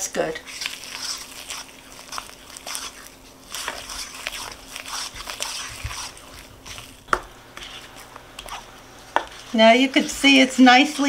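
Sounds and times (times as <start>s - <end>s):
spoon scraping batter in bowl: 0.4s - 11.0s.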